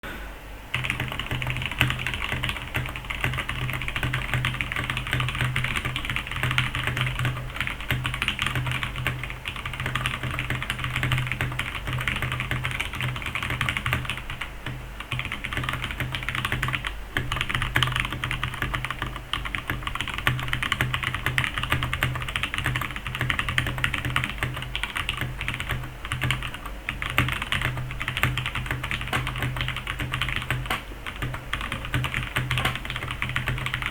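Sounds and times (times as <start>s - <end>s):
mechanical keyboard typing: 0.7s - 33.9s.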